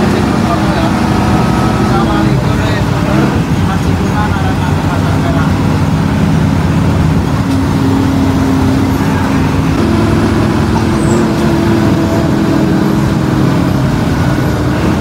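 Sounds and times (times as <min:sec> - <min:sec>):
bus engine running: 0:00.0 - 0:15.0
road noise: 0:00.0 - 0:15.0.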